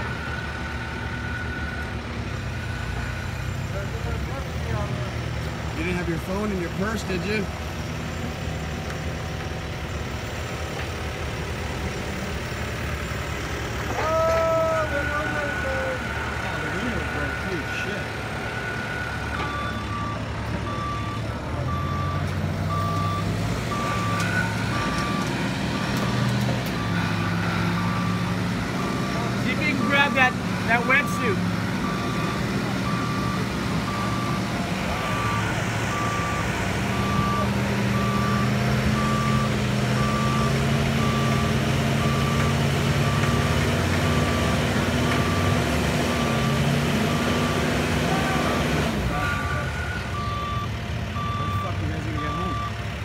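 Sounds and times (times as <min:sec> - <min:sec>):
truck backup alarm beeping: 0:00.0 - 0:05.1, 0:05.8 - 0:53.0
truck engine running: 0:00.0 - 0:53.0.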